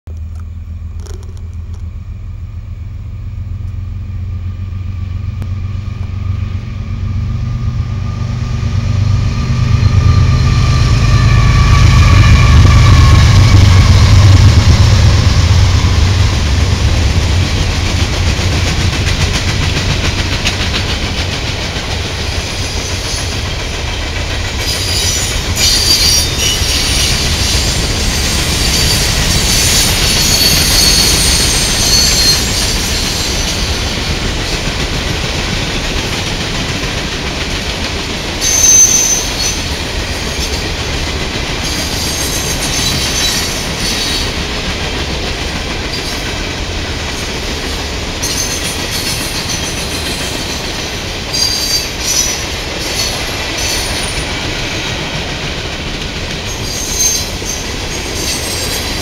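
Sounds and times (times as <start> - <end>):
locomotive rumble: 0.1 - 59.0
wheels clattering on rail: 9.2 - 59.0.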